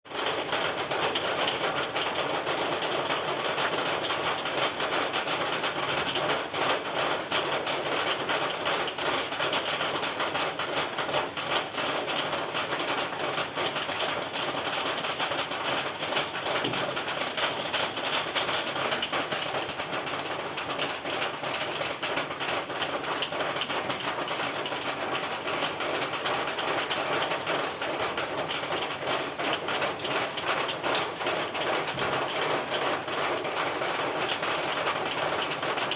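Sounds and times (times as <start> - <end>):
rain pattering on a roof: 0.0 - 35.9.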